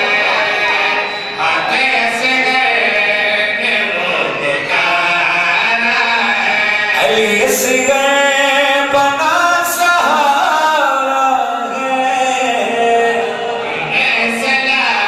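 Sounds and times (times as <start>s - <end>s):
man chanting into a microphone: 1.4s - 15.0s.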